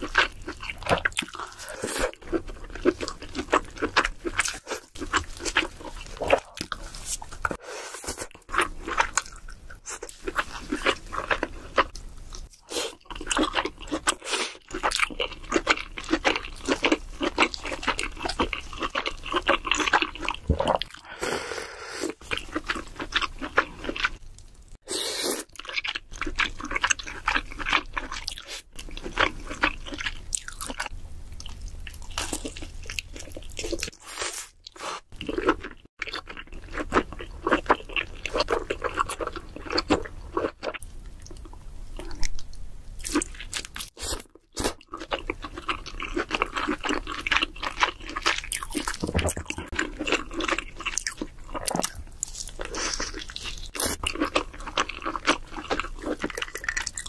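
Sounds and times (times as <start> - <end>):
wet chewing and crunching: 0.0 - 21.1, 22.1 - 24.8, 25.4 - 57.0.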